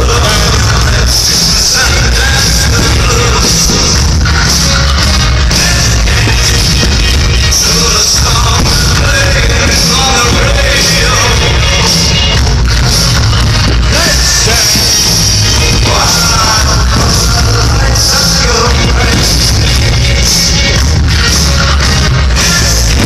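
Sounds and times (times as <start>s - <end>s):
loud rock music with singing: 0.0s - 23.0s.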